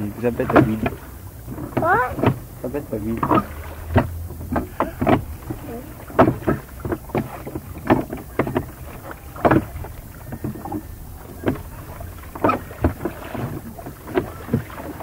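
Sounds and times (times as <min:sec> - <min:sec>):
oars knocking and splashing: 0:00.0 - 0:15.0
wind on microphone: 0:00.0 - 0:15.0.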